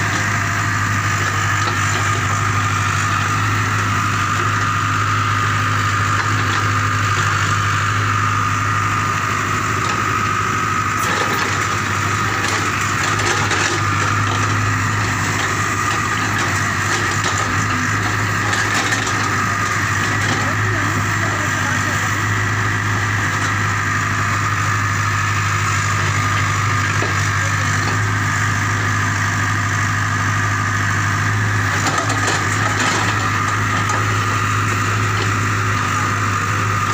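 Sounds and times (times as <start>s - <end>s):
diesel engine whining: 0.0s - 36.9s.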